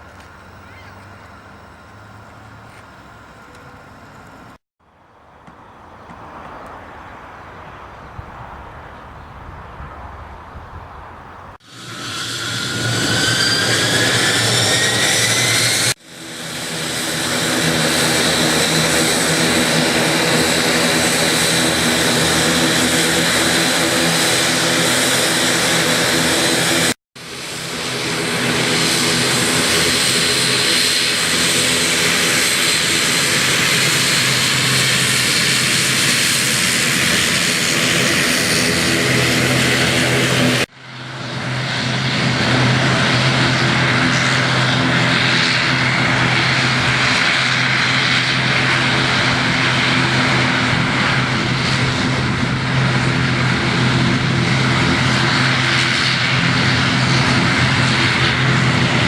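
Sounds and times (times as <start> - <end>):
propeller tones: 0.0 - 59.0
turboprop engines humming: 0.0 - 59.0.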